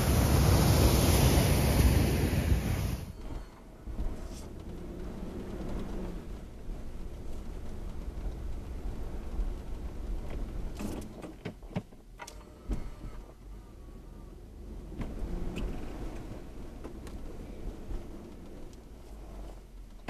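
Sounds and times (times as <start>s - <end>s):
engine rumble from inside cabin: 0.0s - 20.0s.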